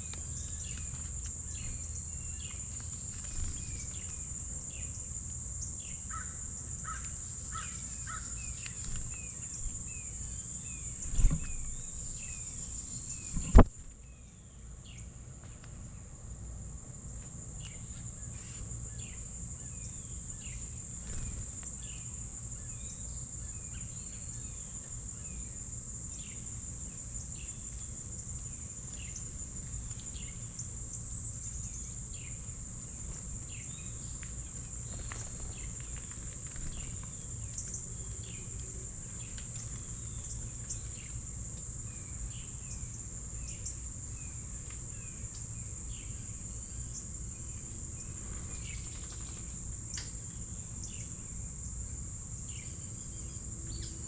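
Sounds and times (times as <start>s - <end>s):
insect trill: 0.0s - 15.1s, 15.9s - 54.0s.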